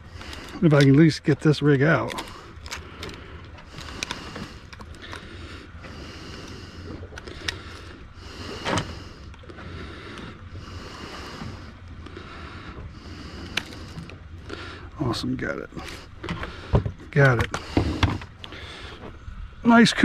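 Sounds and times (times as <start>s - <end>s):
low hum: 0.0s - 20.0s
wind and sea hiss: 0.0s - 20.0s.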